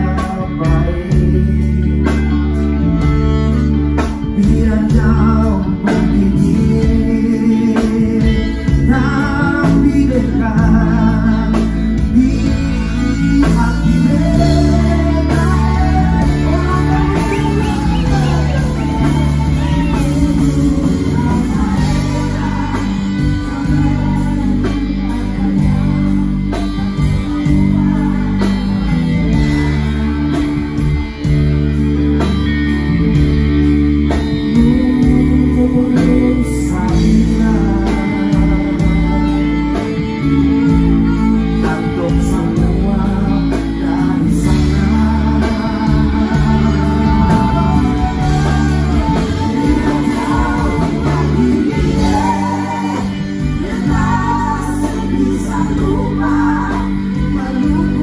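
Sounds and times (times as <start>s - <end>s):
band music with guitar: 0.0s - 58.0s
person singing: 0.0s - 58.0s.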